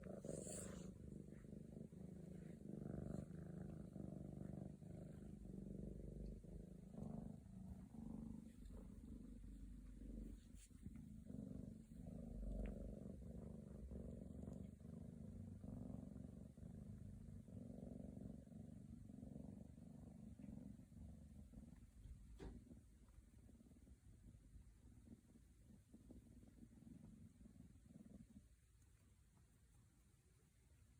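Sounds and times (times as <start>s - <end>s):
kitten purring: 0.0s - 30.9s.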